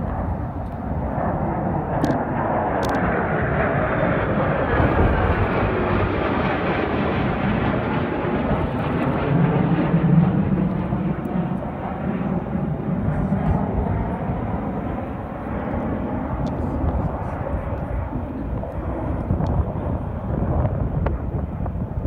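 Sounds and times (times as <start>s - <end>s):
fighter jets passing overhead: 0.0s - 22.0s.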